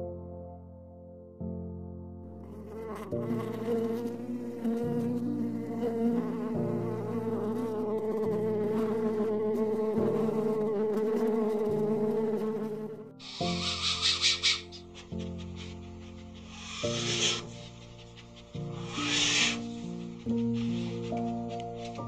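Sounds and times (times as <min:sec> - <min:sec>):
soft background music: 0:00.0 - 0:22.0
insect buzzing in flight: 0:02.4 - 0:21.5.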